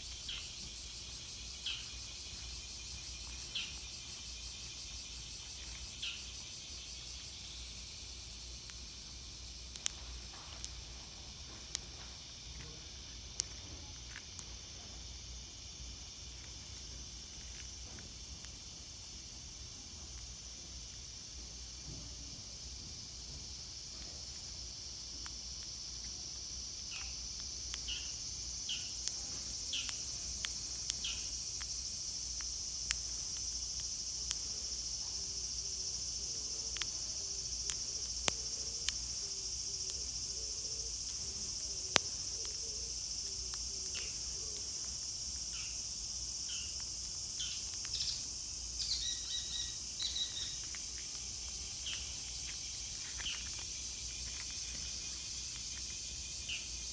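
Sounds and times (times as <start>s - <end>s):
cicadas droning: 0.0s - 56.9s.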